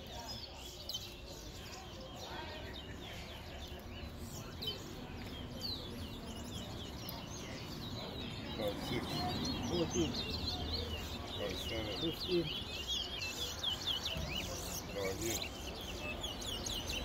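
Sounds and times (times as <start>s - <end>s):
finches singing: 0.0s - 17.0s.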